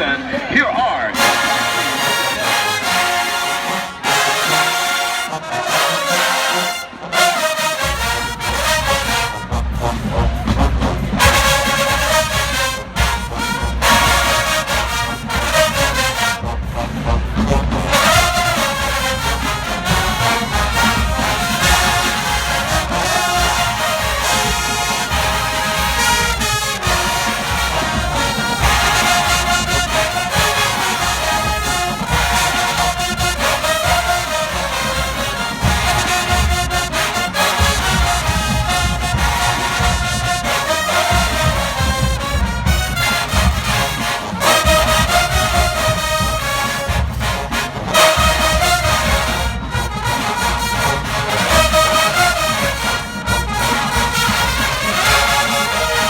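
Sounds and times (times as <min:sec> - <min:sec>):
brass instruments: 0:00.0 - 0:56.0
marching band playing: 0:00.0 - 0:56.0.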